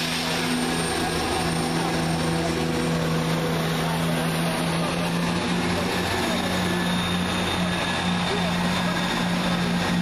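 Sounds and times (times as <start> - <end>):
train diesel engines humming: 0.0 - 10.0.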